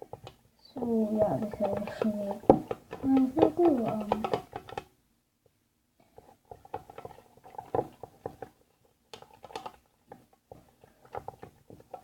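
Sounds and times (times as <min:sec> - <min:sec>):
pencil stirring slime tapping: 0:00.0 - 0:12.0.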